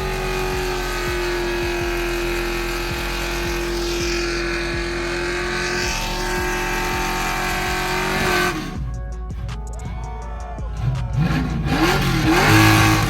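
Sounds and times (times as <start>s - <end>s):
car engine at high revs: 0.0s - 9.8s, 10.8s - 13.0s.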